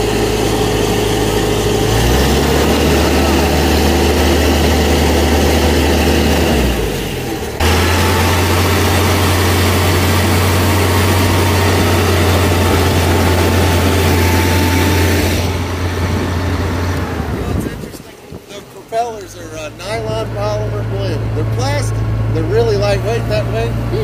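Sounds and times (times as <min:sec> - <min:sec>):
boat engine running: 0:00.0 - 0:24.0
water rushing in propeller wake: 0:00.0 - 0:24.0.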